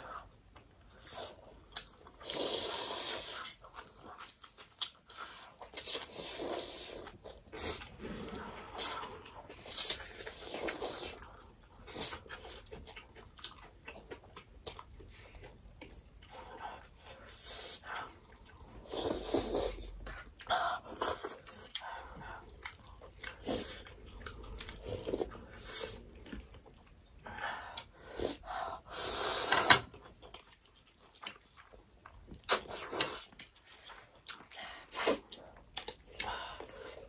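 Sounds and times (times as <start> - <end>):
chewing and mouth noises: 0.0 - 28.5, 29.7 - 37.0.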